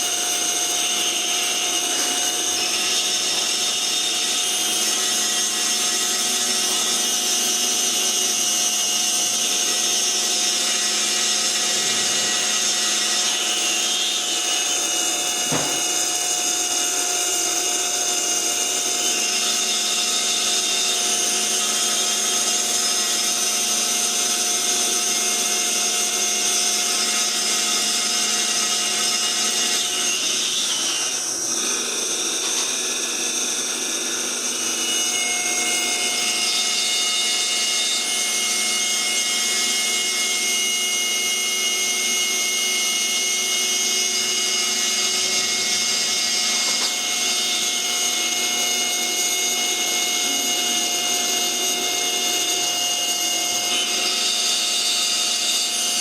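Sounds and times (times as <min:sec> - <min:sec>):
cnc spindle whine: 0:00.0 - 0:56.0.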